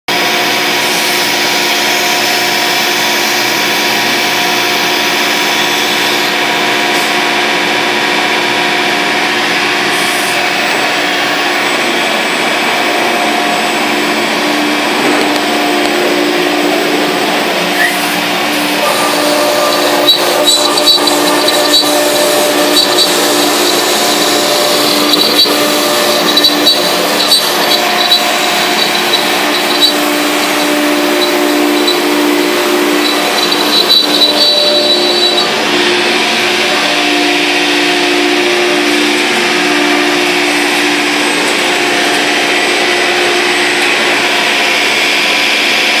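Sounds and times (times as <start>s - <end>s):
cnc router running: 0.1s - 46.0s
high whine: 0.1s - 46.0s.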